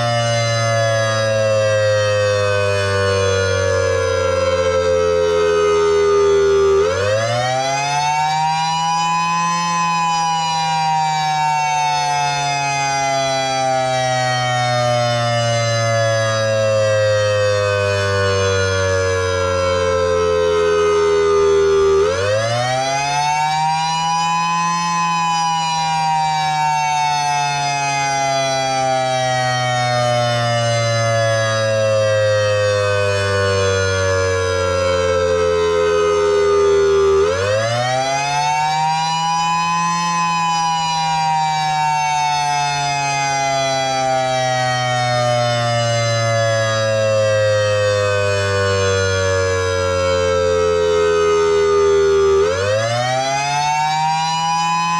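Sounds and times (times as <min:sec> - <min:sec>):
electronic warning siren wailing: 0:00.0 - 0:54.9.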